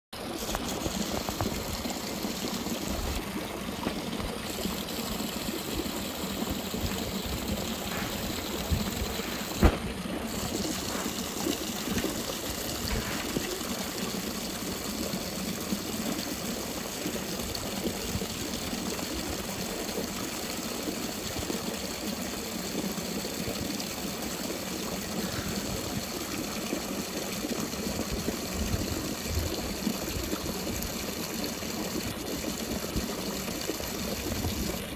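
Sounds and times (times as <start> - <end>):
water running: 0.2 - 34.9
horse drinking: 0.3 - 34.9.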